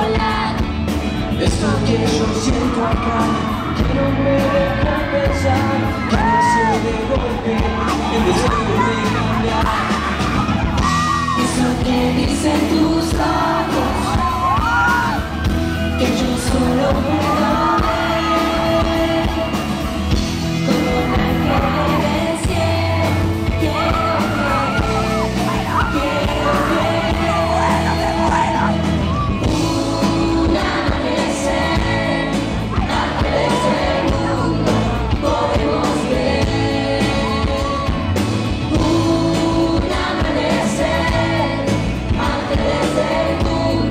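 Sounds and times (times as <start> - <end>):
audience shouting and yelling: 0.0 - 43.9
live pop band with singing: 0.0 - 43.9.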